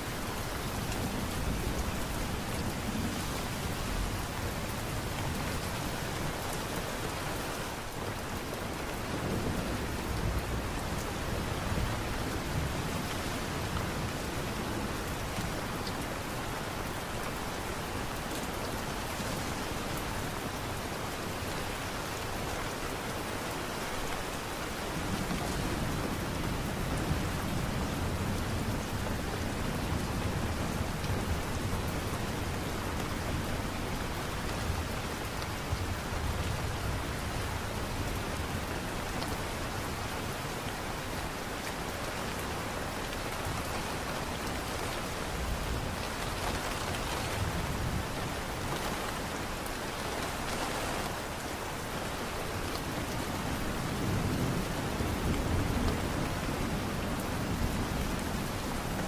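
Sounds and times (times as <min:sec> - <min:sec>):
steady falling rain: 0:00.0 - 0:59.0.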